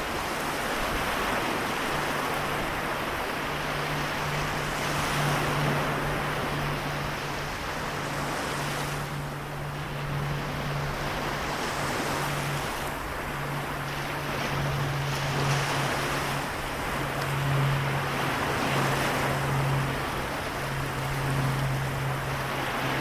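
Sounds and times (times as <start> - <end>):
continuous low hum: 0.0 - 23.0
sea waves washing: 0.0 - 23.0.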